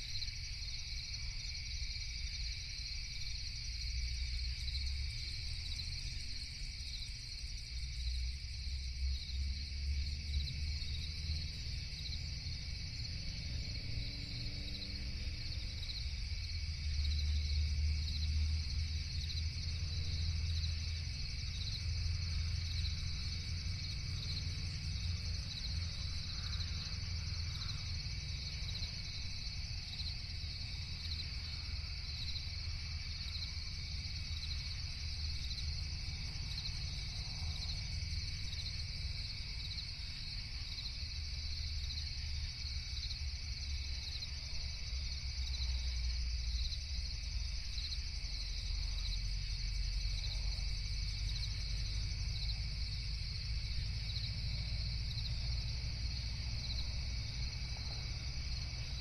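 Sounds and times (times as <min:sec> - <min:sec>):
crickets chirping: 0:00.0 - 0:59.0
low steady rumble: 0:00.7 - 0:59.0.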